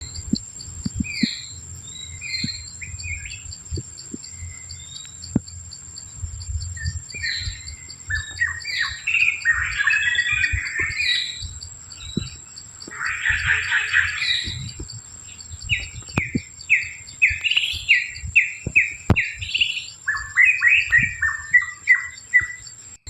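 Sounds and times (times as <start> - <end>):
high-pitched insect drone: 0.0 - 23.0
small birds chirping: 0.0 - 23.0.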